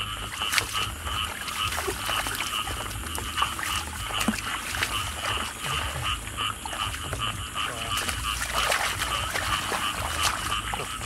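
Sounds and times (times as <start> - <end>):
frogs croaking: 0.0 - 11.0
hands splashing in muddy water: 0.0 - 11.0.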